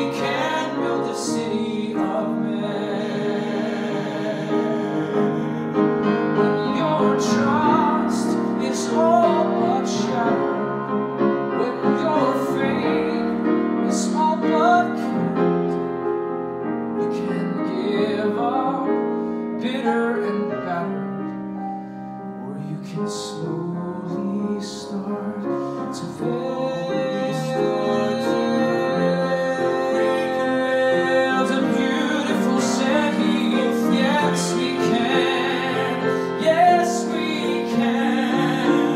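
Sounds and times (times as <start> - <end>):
man singing into microphone: 0.0 - 10.9, 11.5 - 15.7, 17.0 - 21.3, 22.4 - 38.9
piano: 0.0 - 38.9.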